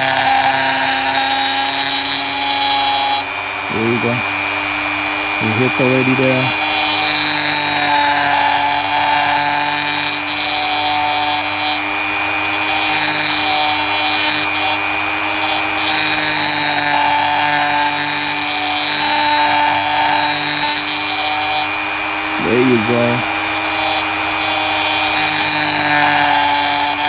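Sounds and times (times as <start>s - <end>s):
rotary tool grinding metal: 0.0s - 27.0s.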